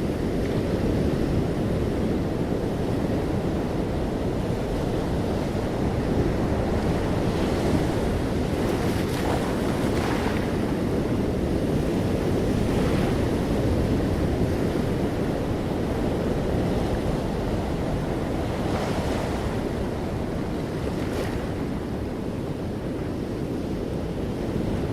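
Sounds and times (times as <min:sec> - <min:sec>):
sea waves washing onto shore: 0:00.1 - 0:24.9.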